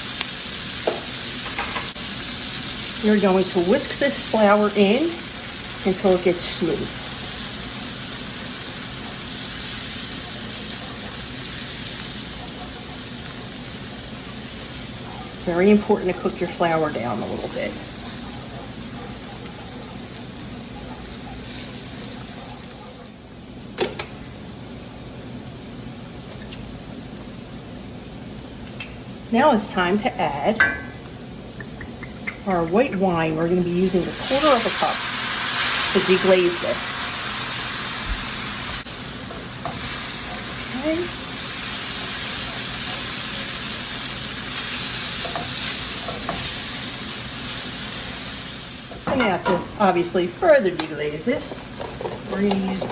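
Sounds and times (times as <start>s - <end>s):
roux sizzling in a pan: 0.0s - 52.9s.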